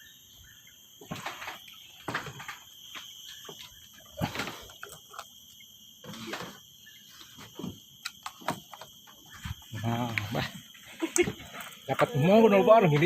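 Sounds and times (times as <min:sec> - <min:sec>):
crickets shrilling: 0:00.0 - 0:13.0.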